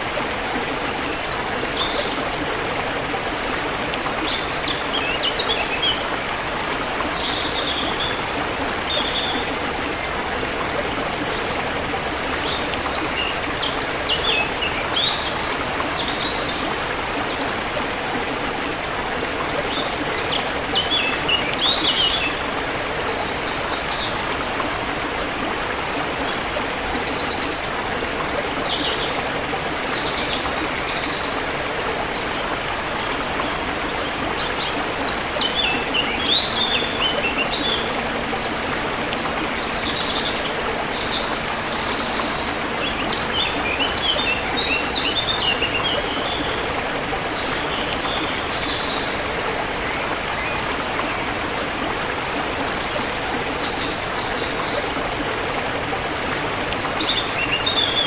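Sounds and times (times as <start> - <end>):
forest stream flowing: 0.0 - 58.0.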